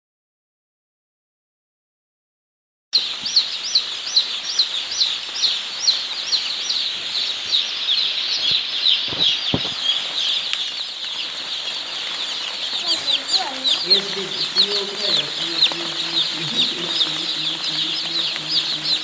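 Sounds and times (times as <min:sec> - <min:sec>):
chicks peeping: 0:03.0 - 0:19.0.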